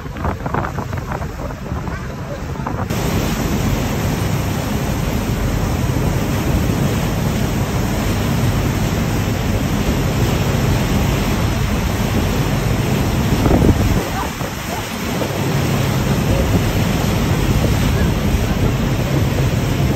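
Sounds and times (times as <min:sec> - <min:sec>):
boat wake rushing: 0:00.0 - 0:19.9
wind buffeting microphone: 0:00.0 - 0:19.9.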